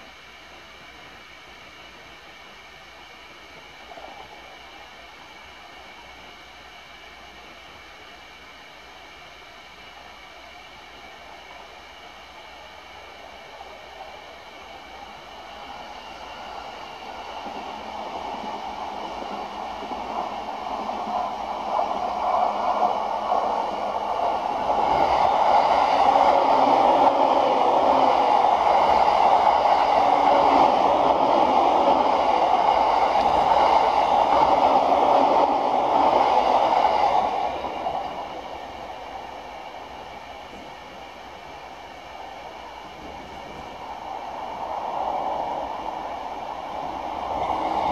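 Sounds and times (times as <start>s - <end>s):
electric train passing: 0.0s - 47.9s.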